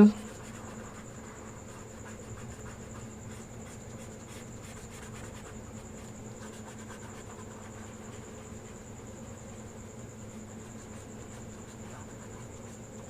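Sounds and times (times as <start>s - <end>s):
coloring strokes on paper: 0.0s - 13.0s
steady low hum: 0.0s - 13.0s.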